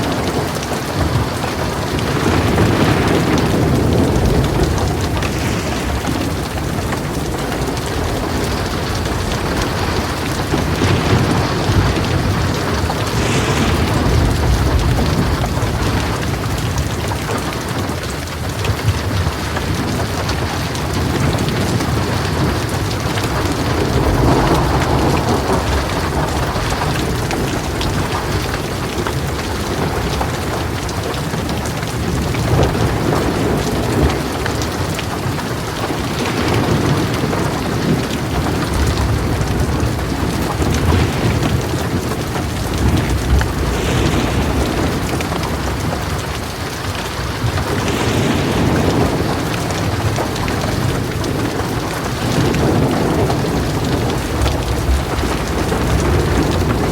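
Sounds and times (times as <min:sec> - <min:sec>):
heavy rain falling: 0:00.0 - 0:56.9
low thunder rumbling: 0:00.0 - 0:56.9.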